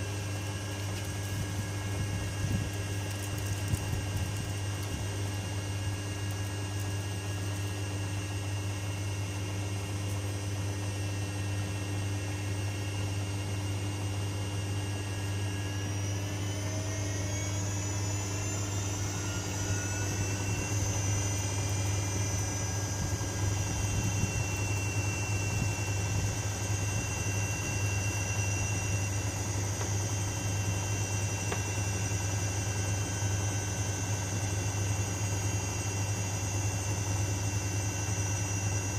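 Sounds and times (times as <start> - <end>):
motor whine rising in pitch: 0.0 - 38.9
washing machine humming: 0.0 - 38.9.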